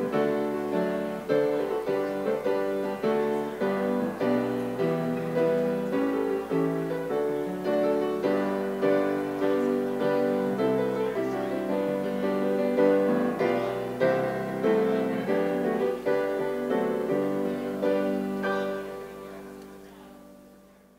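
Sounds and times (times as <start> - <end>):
slow piano chords: 0.0 - 20.9.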